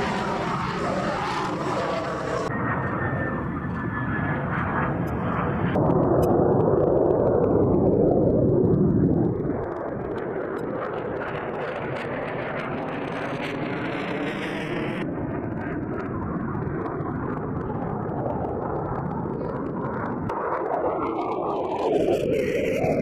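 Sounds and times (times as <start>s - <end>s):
fighter jet engine roar: 0.0s - 23.0s.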